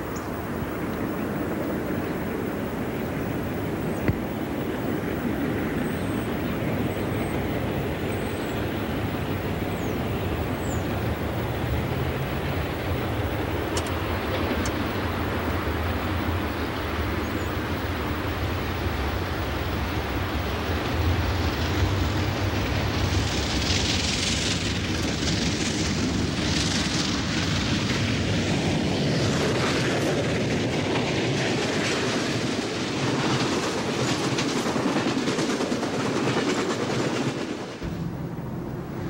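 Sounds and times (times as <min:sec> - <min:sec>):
train wheels clicking on rail joints: 0:00.1 - 0:39.0.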